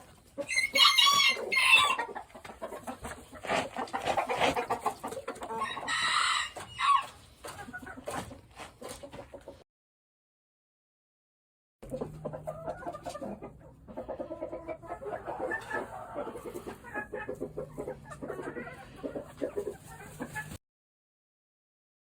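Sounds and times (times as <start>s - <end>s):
chickens clucking: 0.0s - 9.6s, 11.8s - 20.6s.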